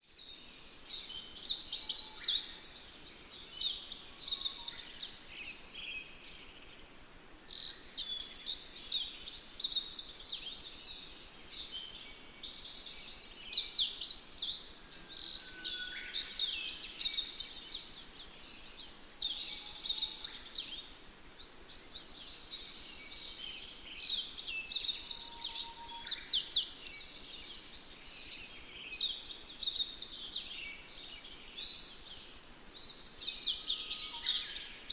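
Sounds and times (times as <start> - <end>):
small birds chirping and twittering: 0.0 - 34.9.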